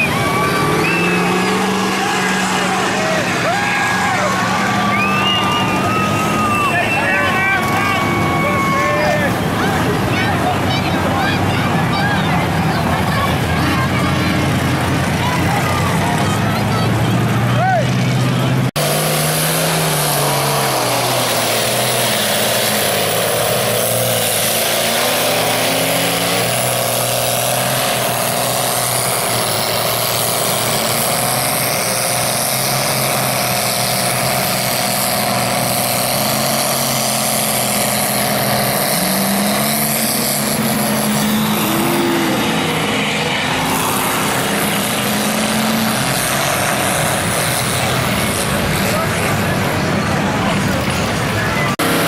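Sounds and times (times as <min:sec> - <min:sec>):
tires churning through mud: 0:00.0 - 0:52.0
truck engine revving: 0:00.0 - 0:52.0.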